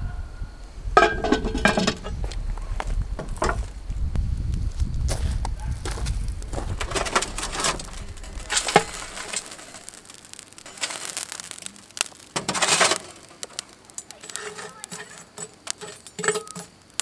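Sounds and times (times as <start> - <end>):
charcoal coals clinking and crunching: 1.0 - 3.9, 4.5 - 17.0.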